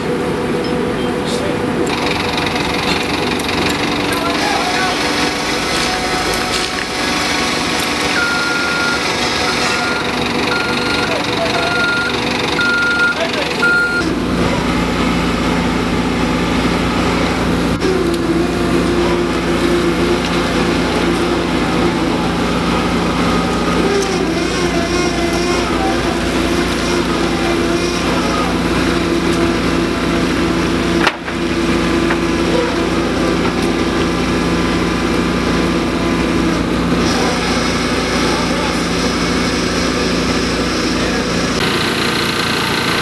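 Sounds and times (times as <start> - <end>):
high steady whine: 0.0 - 43.0
machinery low hum: 0.0 - 43.0.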